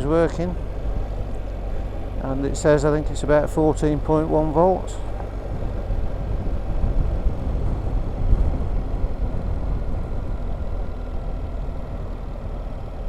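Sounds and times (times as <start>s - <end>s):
motorcycle engine rumbling: 0.0s - 13.0s
wind buffeting microphone: 0.0s - 13.0s.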